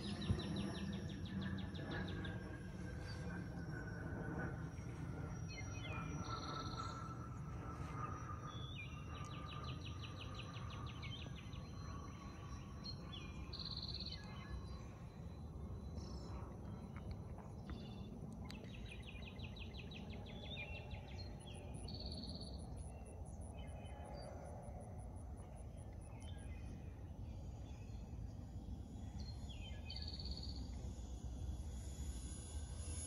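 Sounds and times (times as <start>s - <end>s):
outdoor background noise: 0.0s - 33.0s.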